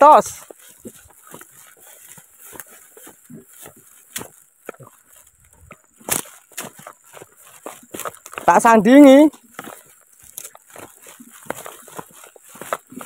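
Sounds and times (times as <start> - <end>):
footsteps crunching through dry brush: 0.0 - 13.0.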